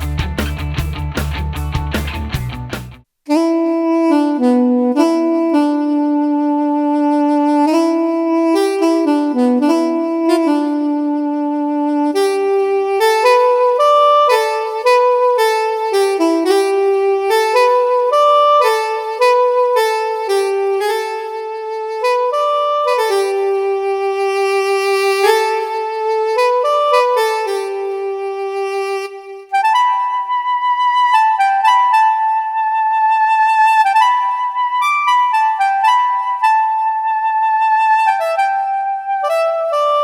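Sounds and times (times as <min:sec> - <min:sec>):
keyboard saxophone melody: 0:03.3 - 0:40.0.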